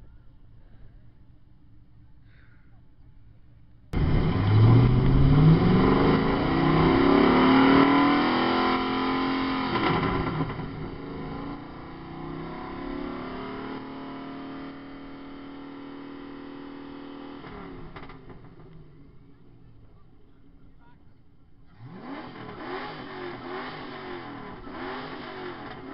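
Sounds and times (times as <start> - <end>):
sports car engine revving: 4.0 - 25.9.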